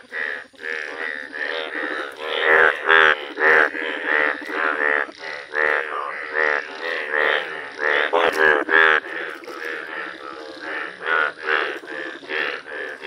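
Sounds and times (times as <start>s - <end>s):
chorus of bullfrogs croaking: 0.0s - 13.0s.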